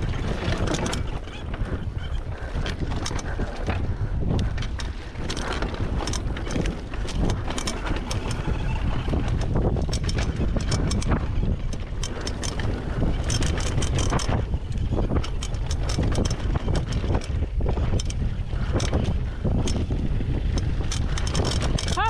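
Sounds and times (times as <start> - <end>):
bike rattling and clicking: 0.0 - 22.0
wind buffeting microphone: 0.0 - 22.0.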